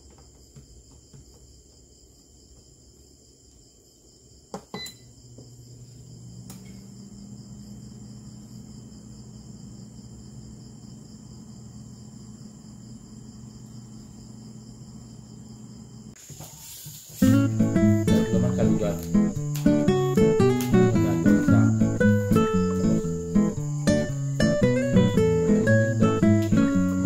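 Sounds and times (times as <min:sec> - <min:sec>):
crickets chirring: 0:00.0 - 0:27.0
appliance electric hum: 0:04.5 - 0:27.0.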